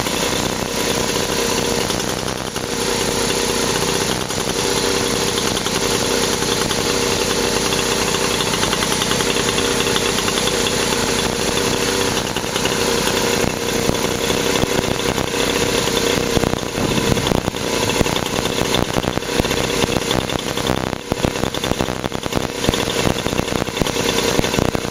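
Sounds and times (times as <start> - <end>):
moped two-stroke engine running: 0.0 - 24.9.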